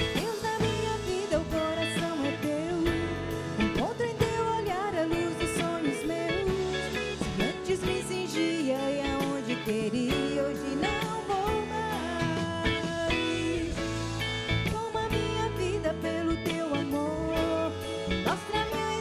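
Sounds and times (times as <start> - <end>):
electric guitar: 0.0 - 19.0
keyboard: 0.0 - 19.0
woman singing: 0.0 - 19.0.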